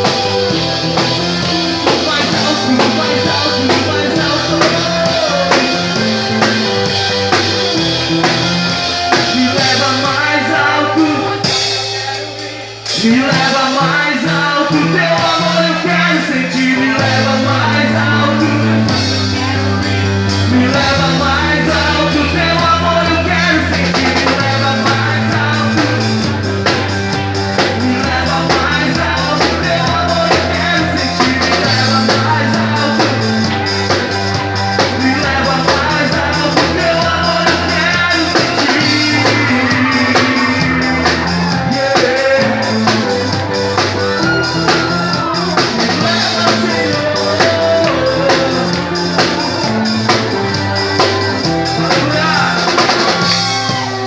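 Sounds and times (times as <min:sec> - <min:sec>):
bass guitar long notes: 0:00.0 - 0:54.0
drum kit: 0:00.0 - 0:54.0
guitar: 0:00.0 - 0:54.0.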